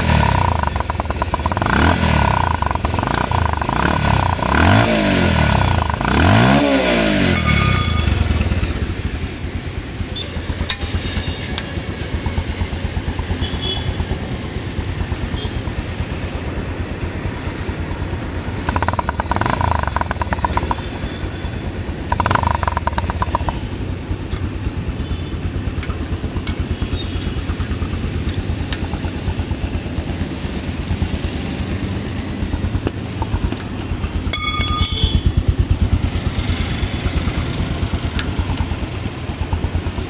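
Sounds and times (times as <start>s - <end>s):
motorcycle engine idling: 0.0s - 6.6s, 7.2s - 40.0s.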